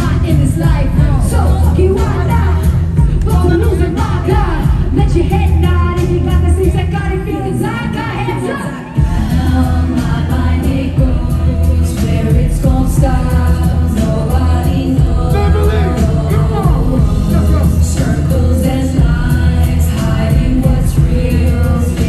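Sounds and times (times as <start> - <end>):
hip-hop music through loudspeakers: 0.0 - 22.0.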